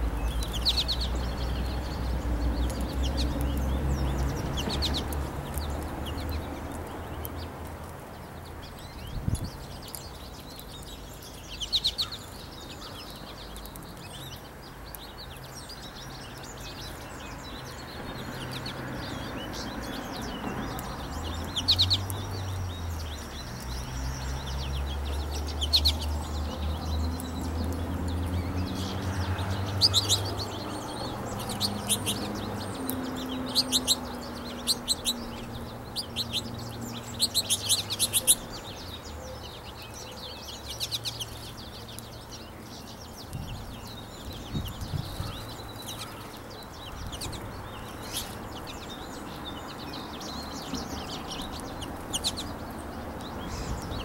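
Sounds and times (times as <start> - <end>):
finches chirping: 8.6 - 54.0.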